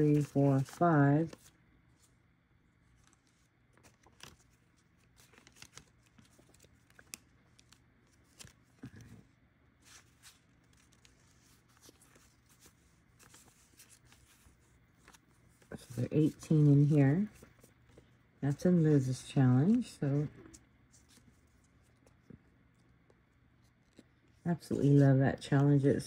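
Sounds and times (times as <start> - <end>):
paper bills rustling: 0.0 - 2.1, 2.8 - 25.1.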